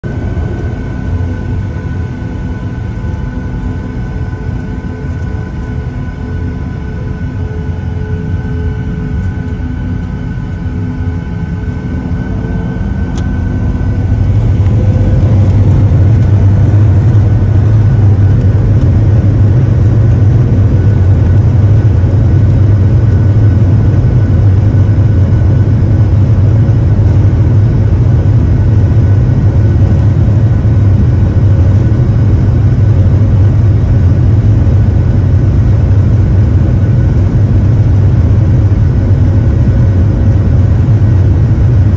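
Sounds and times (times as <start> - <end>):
jet engines from inside cabin: 0.0 - 41.9.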